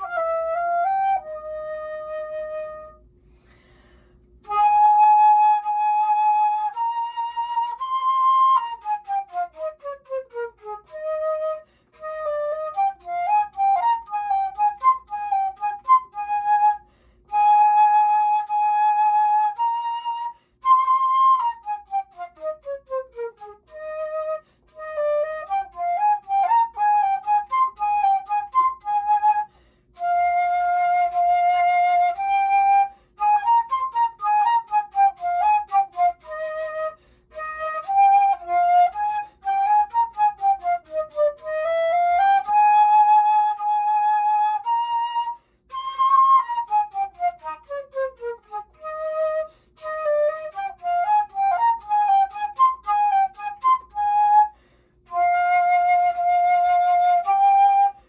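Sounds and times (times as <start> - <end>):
solo flute playing: 0.0 - 58.0.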